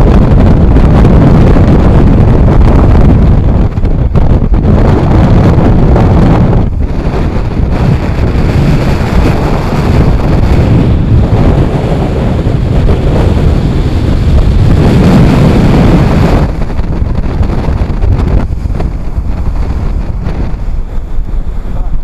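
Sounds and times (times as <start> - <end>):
choppy sea rushing: 0.0 - 22.0
wind buffeting microphone: 0.0 - 22.0.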